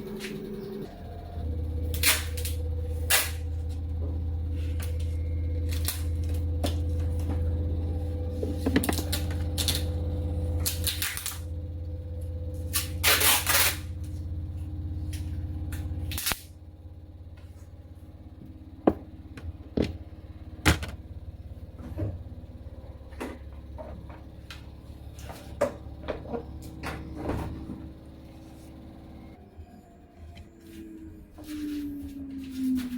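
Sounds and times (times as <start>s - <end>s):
low electric hum: 0.0s - 32.9s.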